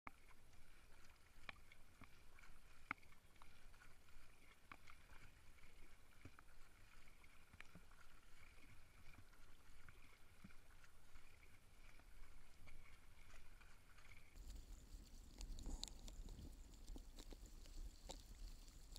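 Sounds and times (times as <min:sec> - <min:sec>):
paddle drips and splashes: 0:00.1 - 0:18.9.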